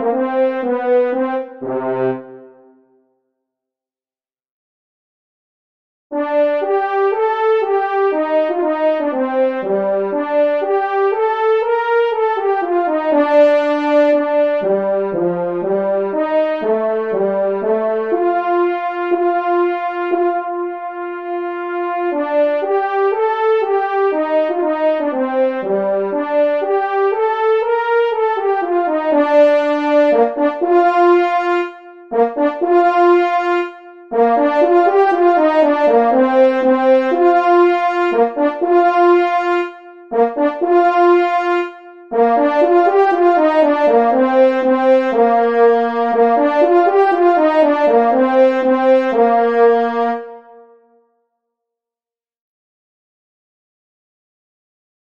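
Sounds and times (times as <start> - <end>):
french horn melody: 0.0 - 2.9, 6.1 - 50.9.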